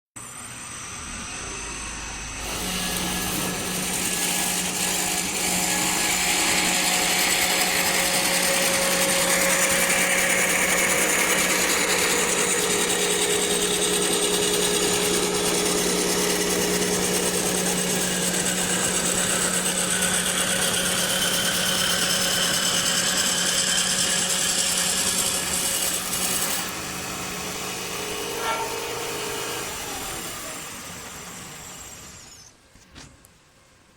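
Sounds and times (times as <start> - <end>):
lathe motor hum: 0.3 - 32.3
cutter shaving spinning wood: 0.9 - 32.5.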